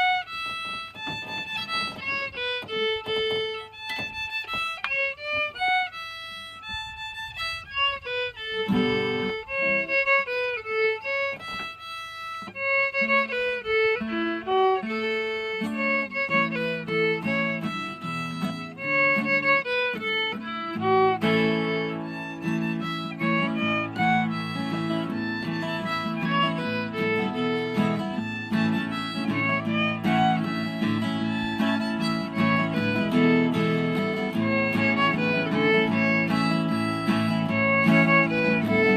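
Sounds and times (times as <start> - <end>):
fiddle melody: 0.0 - 38.9
guitar accompaniment: 0.0 - 38.9.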